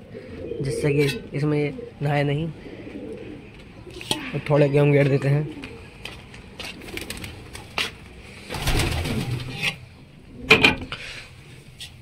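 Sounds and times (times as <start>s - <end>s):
pigeons cooing: 0.0s - 11.2s.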